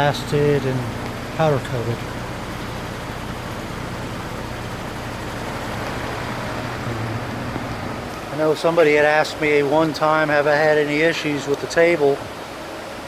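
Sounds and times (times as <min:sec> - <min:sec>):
constant low hum: 0:00.0 - 0:12.9
steady background hiss: 0:00.0 - 0:13.0.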